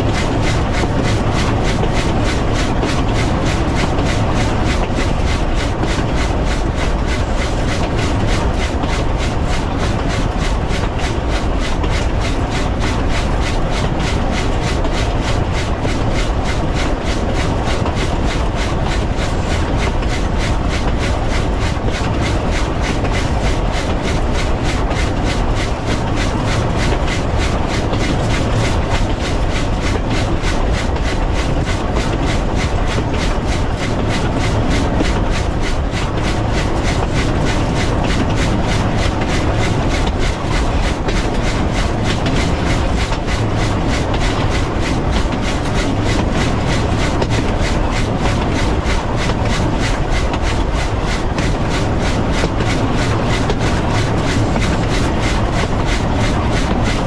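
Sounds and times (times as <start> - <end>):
steam locomotive exhaust beating: 0.0 - 57.0
wheels rumbling on rail: 0.0 - 57.0.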